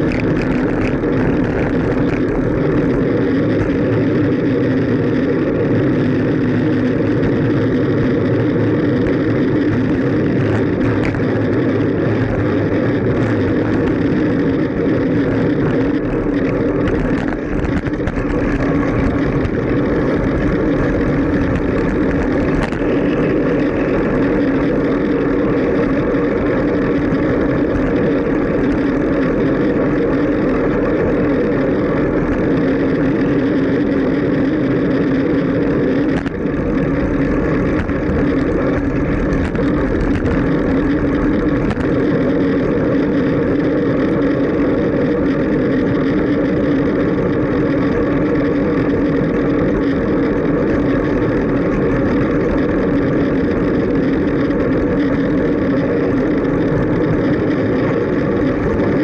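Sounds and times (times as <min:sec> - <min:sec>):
road noise: 0:00.0 - 0:59.0
traffic: 0:00.0 - 0:59.0
wind rushing on microphone: 0:00.0 - 0:59.0.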